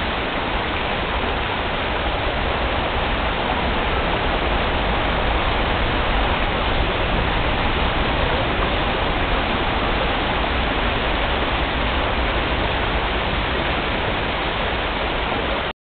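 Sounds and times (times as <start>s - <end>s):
river water rushing: 0.0s - 15.7s.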